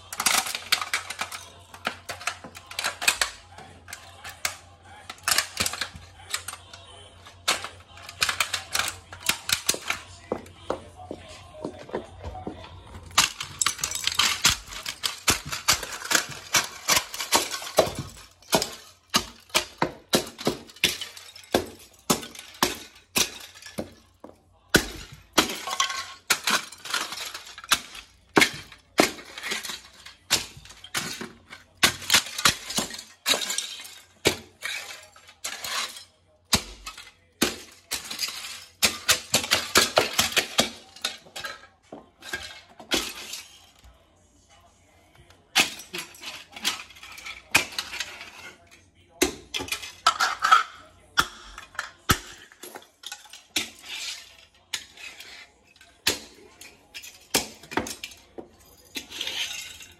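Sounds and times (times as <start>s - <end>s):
plastic fragments clinking on tiles: 0.0s - 10.4s, 11.9s - 44.0s, 45.2s - 59.9s.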